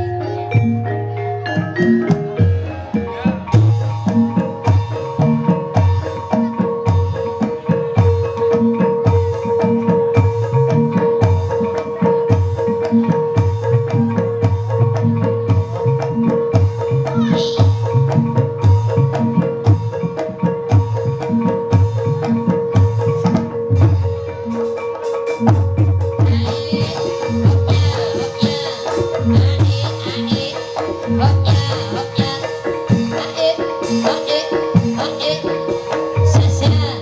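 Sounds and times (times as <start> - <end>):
gamelan drum strokes: 0.0 - 37.0.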